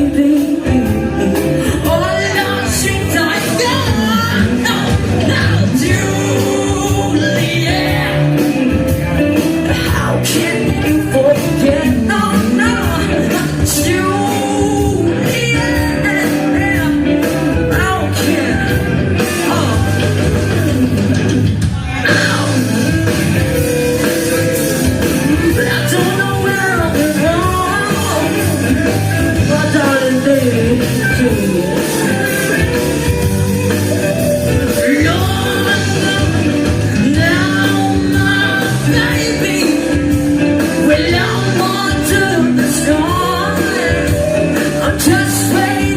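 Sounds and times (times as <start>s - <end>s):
person singing: 0.0s - 21.0s, 21.7s - 45.9s
live rock band playing: 0.0s - 45.9s.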